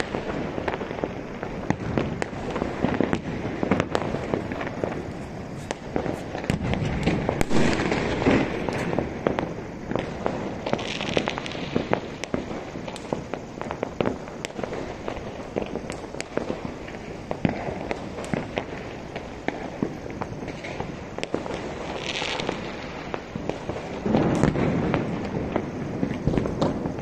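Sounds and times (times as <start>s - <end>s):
distant fireworks bangs and cracks: 0.0s - 27.0s.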